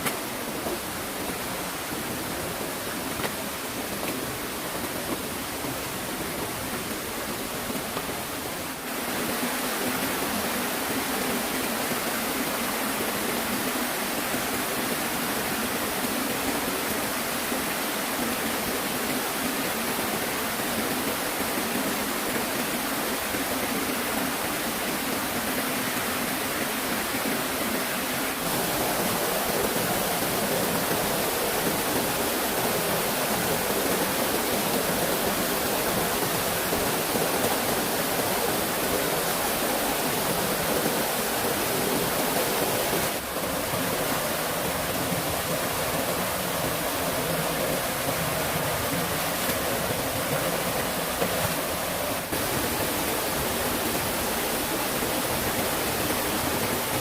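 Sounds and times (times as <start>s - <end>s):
flowing stream water: 0.0s - 57.0s.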